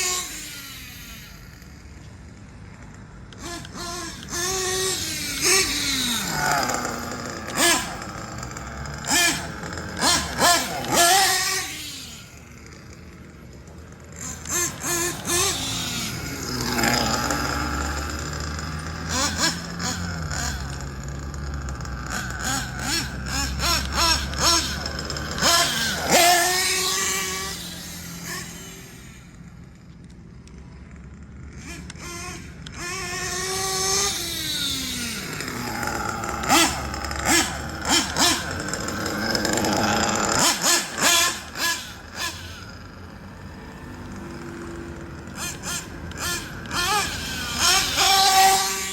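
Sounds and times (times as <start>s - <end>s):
small engine revving: 0.0s - 48.9s.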